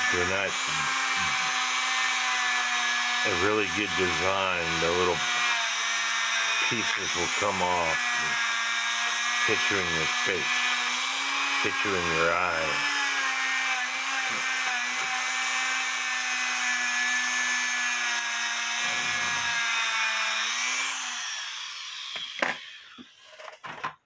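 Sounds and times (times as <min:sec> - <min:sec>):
rotary tool wire brush scratching metal: 0:00.0 - 0:19.7.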